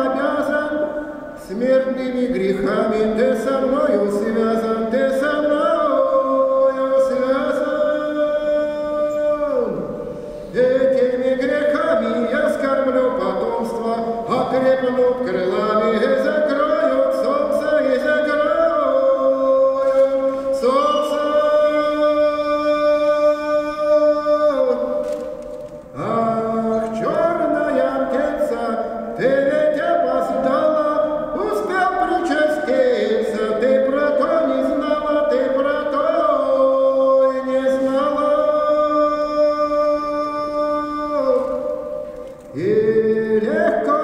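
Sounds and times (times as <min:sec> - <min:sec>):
man singing unaccompanied: 0:00.0 - 0:44.0.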